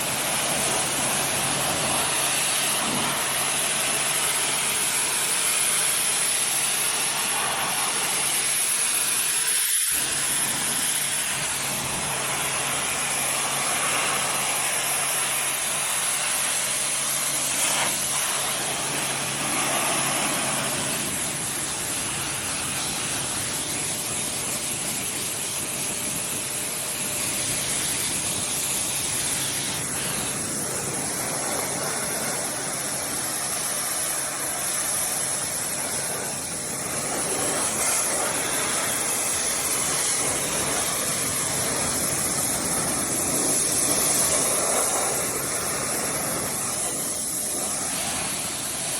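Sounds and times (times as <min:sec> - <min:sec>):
pressure washer water spraying: 0:00.0 - 0:48.9.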